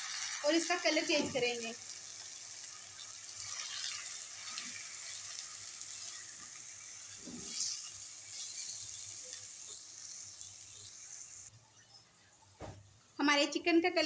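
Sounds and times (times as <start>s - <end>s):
chicken sizzling in hot oil: 0.0s - 11.5s.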